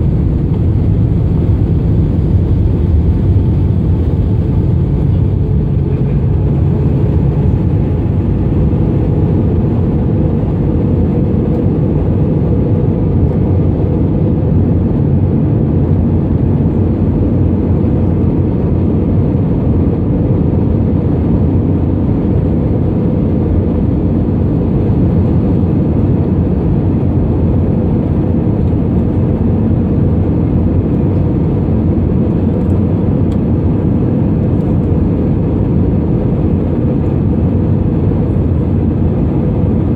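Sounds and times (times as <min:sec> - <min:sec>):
aircraft engines rumbling: 0:00.0 - 0:39.9
rushing airflow: 0:00.0 - 0:39.9.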